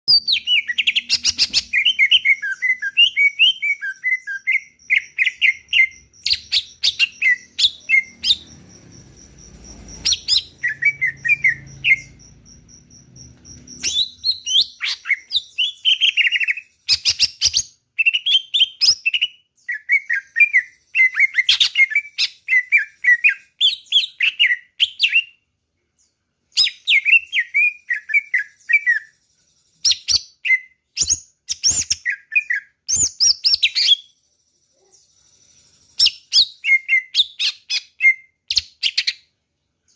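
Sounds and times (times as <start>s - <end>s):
bird singing whistled phrases: 0.1s - 8.5s, 10.0s - 12.2s, 13.3s - 25.4s, 26.6s - 29.2s, 29.8s - 34.2s, 35.9s - 39.2s.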